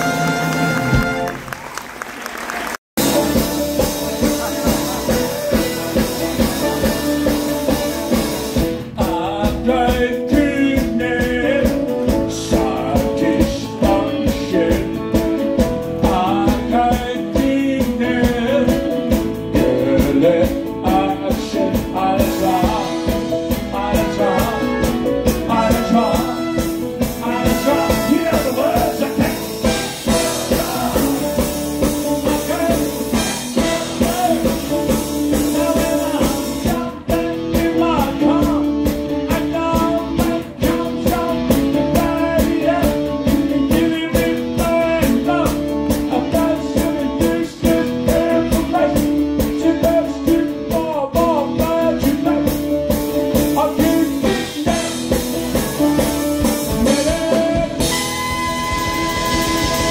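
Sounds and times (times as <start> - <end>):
live rock band playing: 0.0 - 1.8, 3.0 - 59.9
man singing into microphone: 3.0 - 58.7
drum beat: 3.0 - 59.9.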